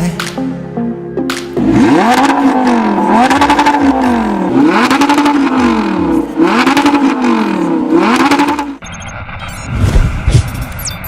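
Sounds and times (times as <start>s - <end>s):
car engine revving: 1.6s - 10.6s.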